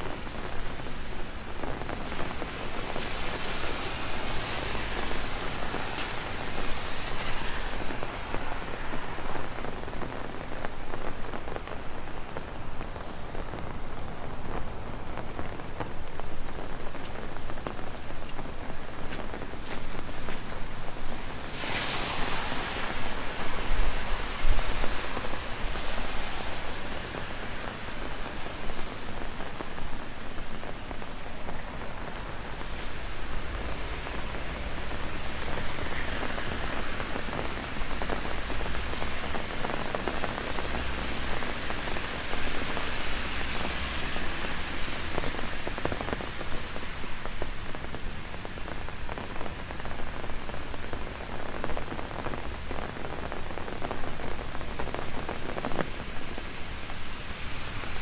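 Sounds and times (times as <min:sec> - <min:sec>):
heavy rain on an umbrella: 0:00.0 - 0:58.0.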